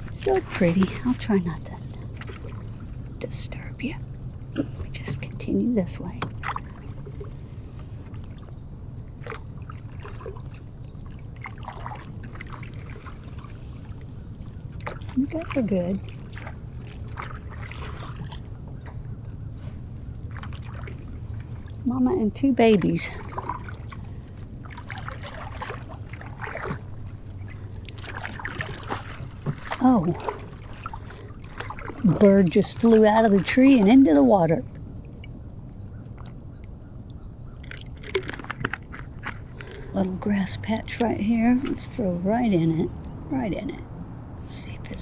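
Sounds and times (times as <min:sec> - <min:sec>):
steady low hum: 0:00.0 - 0:45.0
water splashing around kayak: 0:00.0 - 0:45.0.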